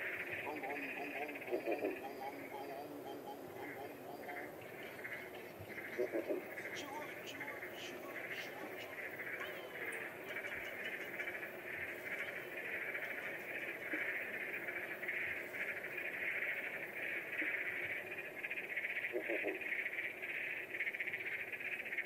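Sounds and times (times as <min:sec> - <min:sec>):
frogs trilling: 0:00.0 - 0:22.0.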